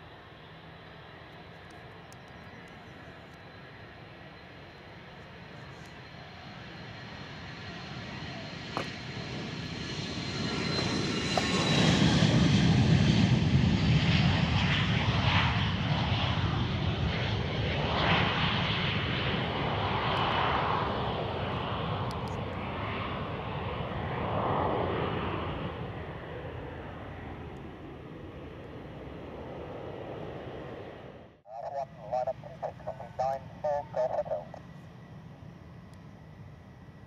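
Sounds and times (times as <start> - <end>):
high engine whine: 0.0 - 37.0
jet taking off: 0.0 - 37.0.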